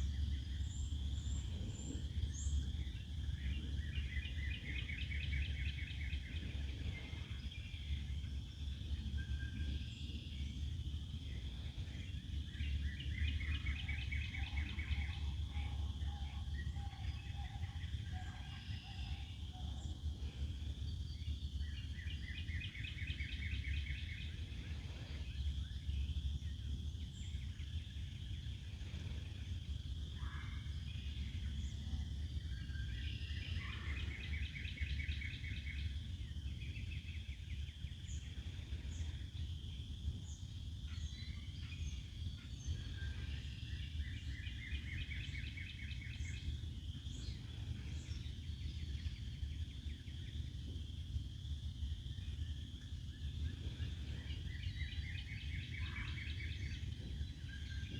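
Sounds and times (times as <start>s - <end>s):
constant low rumble: 0.0s - 57.9s
rapid trilled birdsong: 0.0s - 57.9s.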